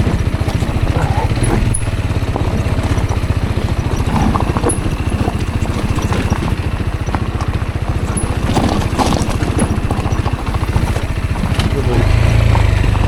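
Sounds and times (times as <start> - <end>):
light engine knocks: 0.0 - 13.0
motorcycle engine idling: 0.0 - 13.0.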